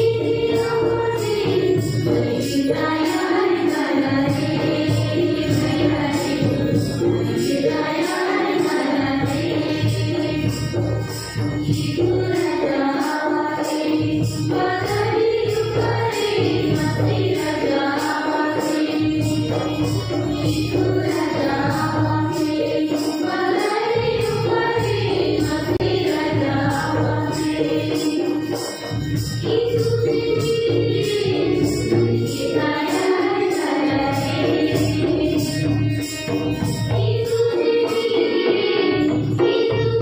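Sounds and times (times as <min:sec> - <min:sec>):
group singing a hymn: 0:00.0 - 0:10.6, 0:11.6 - 0:28.7, 0:29.4 - 0:35.5, 0:37.0 - 0:40.0
rhythmic beat: 0:00.0 - 0:40.0.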